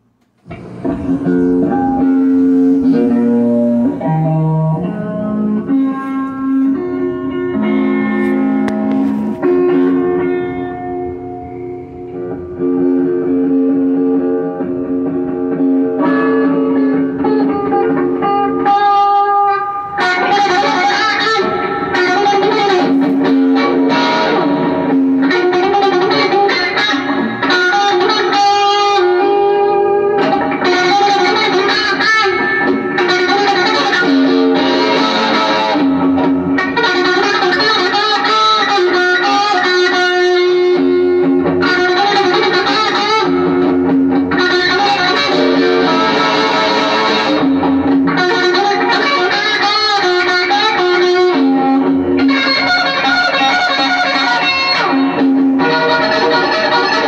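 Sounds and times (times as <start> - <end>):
electric guitar slow melody: 0.0 - 57.0.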